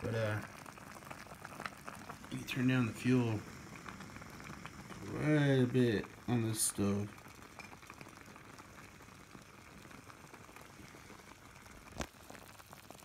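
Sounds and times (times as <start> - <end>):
faint steady stove hiss: 0.0 - 13.0
stew bubbling pops: 0.0 - 13.0.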